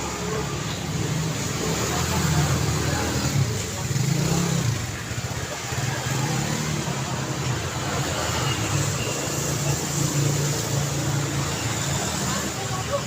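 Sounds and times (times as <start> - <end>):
tyres on road: 0.0 - 13.0.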